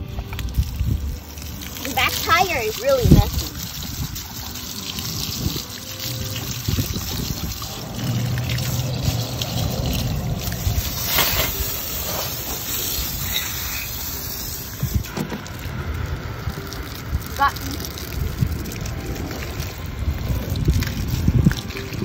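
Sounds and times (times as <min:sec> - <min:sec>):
hose nozzle spraying water: 0:00.0 - 0:22.0
water splashing off wheel: 0:00.0 - 0:22.0.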